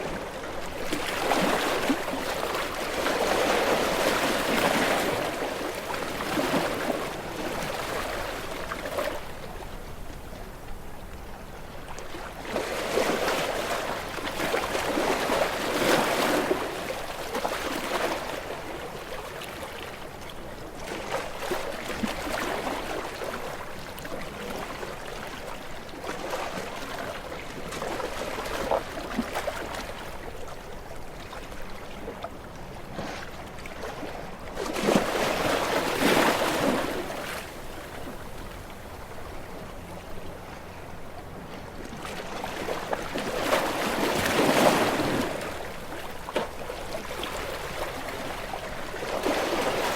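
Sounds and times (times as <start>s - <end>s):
small waves washing onto shore: 0.0s - 49.9s.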